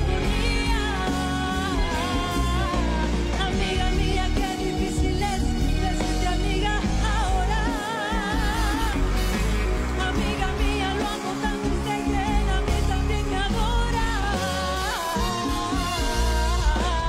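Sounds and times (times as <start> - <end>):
live band playing: 0.0 - 17.0
woman singing a ballad: 0.0 - 17.0.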